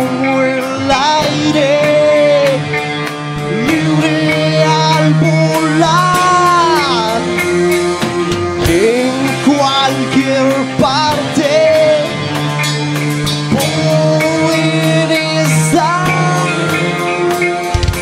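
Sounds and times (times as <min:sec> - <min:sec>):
rock band playing: 0:00.0 - 0:18.0
sliding lead guitar line: 0:00.0 - 0:18.0.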